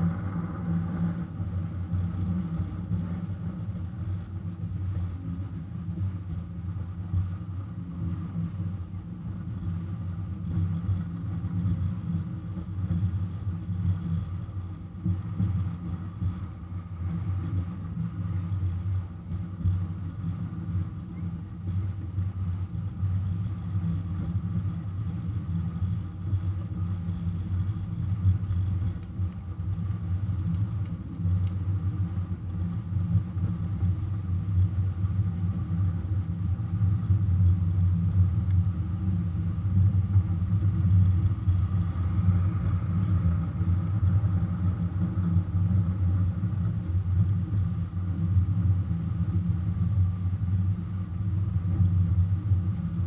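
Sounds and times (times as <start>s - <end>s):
locomotive engine low rumble: 0.0s - 53.0s.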